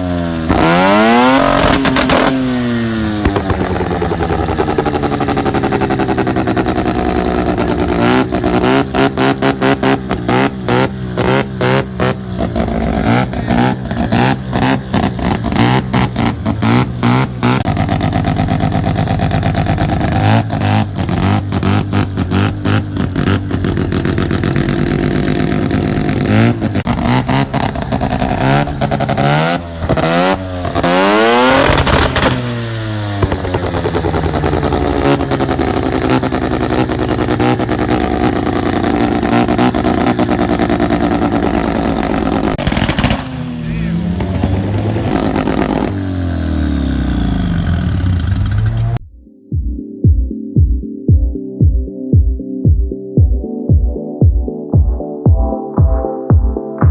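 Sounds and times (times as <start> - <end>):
rotary engine revving: 0.0 - 49.0
exhaust pops and bangs: 0.4 - 46.0.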